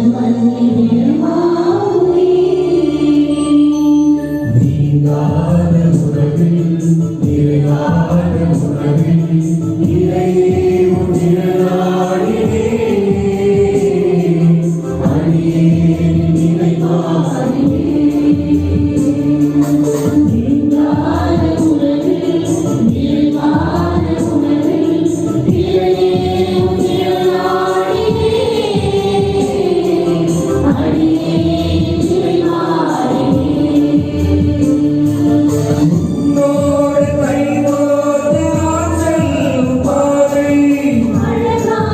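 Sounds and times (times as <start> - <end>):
choir singing a hymn: 0.0 - 4.0, 4.6 - 41.9.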